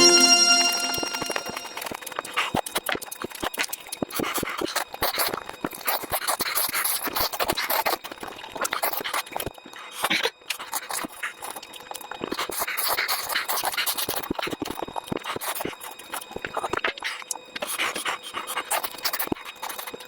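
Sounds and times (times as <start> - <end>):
wet chewing and lip smacking: 2.5 - 20.0.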